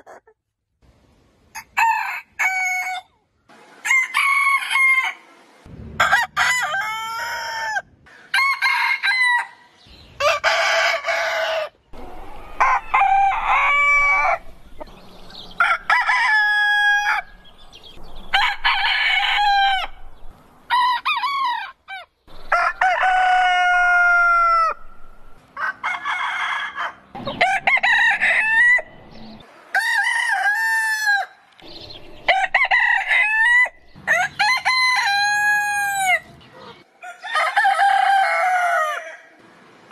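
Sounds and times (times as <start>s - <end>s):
roosters crowing: 1.5s - 3.1s, 3.8s - 5.4s, 6.0s - 39.9s.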